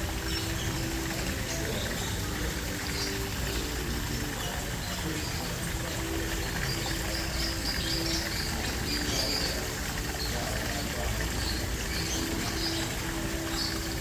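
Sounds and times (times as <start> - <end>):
running water: 0.0 - 14.0
small birds chirping: 0.0 - 14.0.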